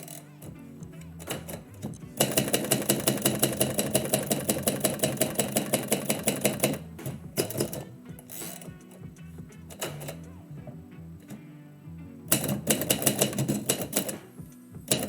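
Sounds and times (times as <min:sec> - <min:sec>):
typewriter keys striking: 0:00.0 - 0:10.3, 0:12.3 - 0:15.0.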